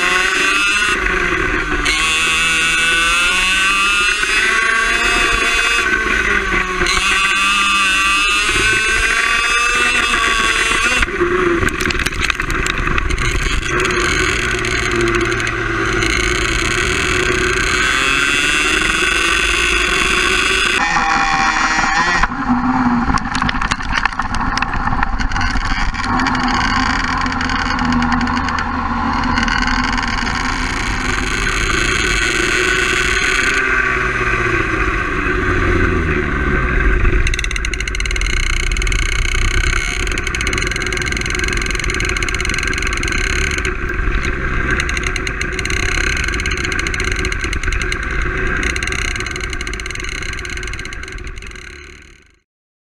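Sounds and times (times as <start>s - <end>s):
two-stroke kart engine: 0.0s - 52.4s.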